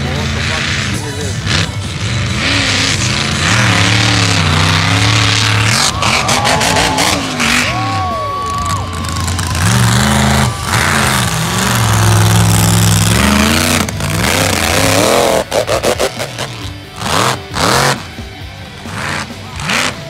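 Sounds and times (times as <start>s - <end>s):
truck engine revving hard: 0.0s - 20.0s.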